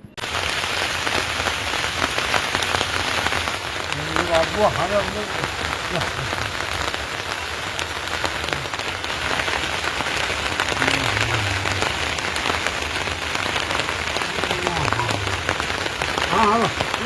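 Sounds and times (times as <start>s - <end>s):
steady rain falling: 0.2s - 17.0s.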